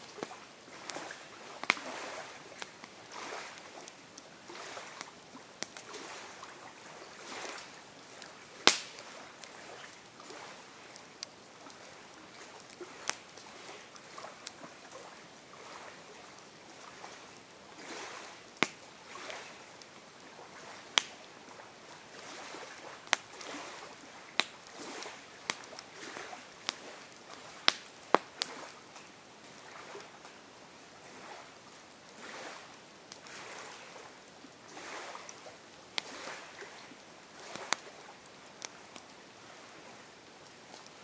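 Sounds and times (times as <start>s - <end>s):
campfire crackling and popping: 0.0s - 41.0s
soft hiss of flames: 0.0s - 41.0s.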